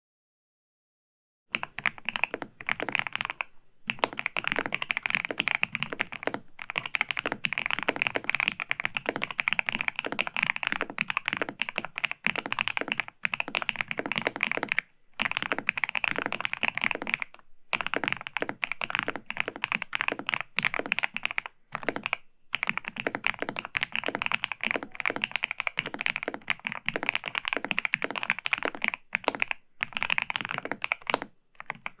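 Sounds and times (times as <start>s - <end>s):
typing on mechanical keyboard: 1.5s - 32.0s.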